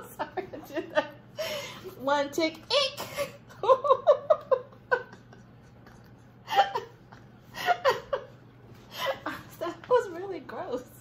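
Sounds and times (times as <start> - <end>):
women laughing: 0.0 - 1.9, 3.0 - 10.0.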